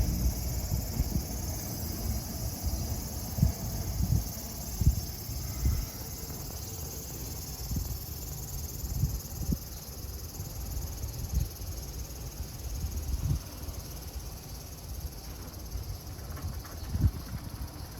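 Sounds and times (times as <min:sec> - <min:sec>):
insects chorus: 0:00.0 - 0:17.9.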